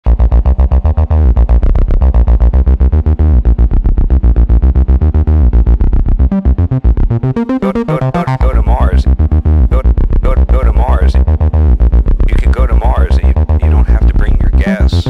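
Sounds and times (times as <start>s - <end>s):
acid synth bassline: 0.0s - 15.0s.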